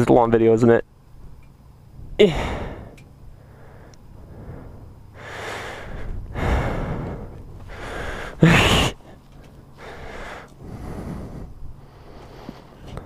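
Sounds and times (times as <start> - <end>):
person breathing heavily: 2.2 - 13.0.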